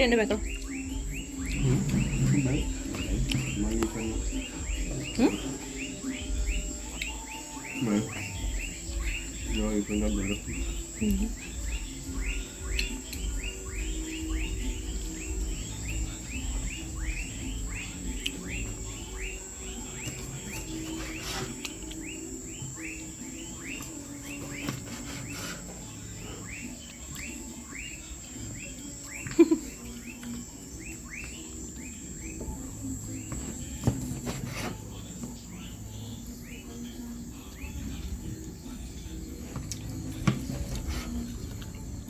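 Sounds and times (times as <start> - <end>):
bird chirping: 0.0 - 42.0.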